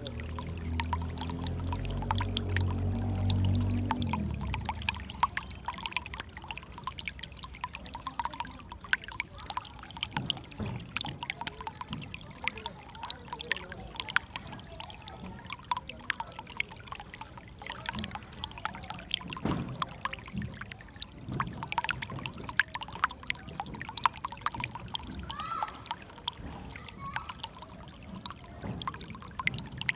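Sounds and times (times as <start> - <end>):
water splashing over rocks: 0.0 - 29.9.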